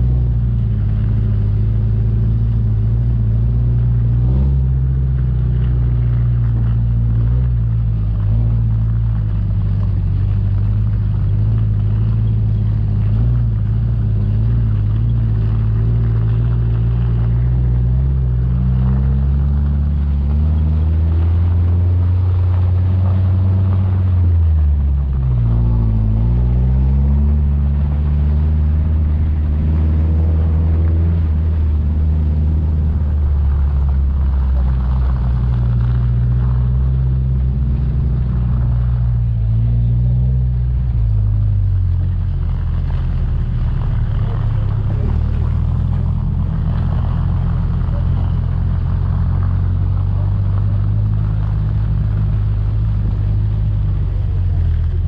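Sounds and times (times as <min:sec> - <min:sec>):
engine running under load: 0:00.0 - 0:55.0.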